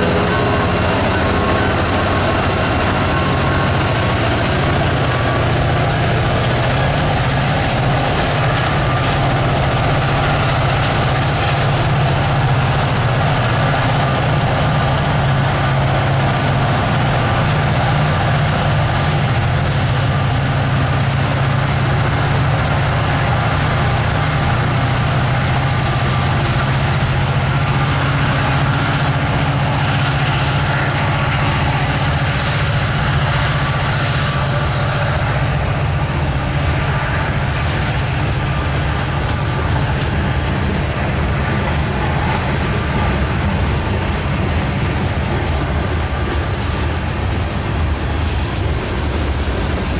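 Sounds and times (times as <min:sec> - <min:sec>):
diesel locomotives droning: 0:00.0 - 0:49.9
freight cars rolling on rails: 0:00.0 - 0:49.9.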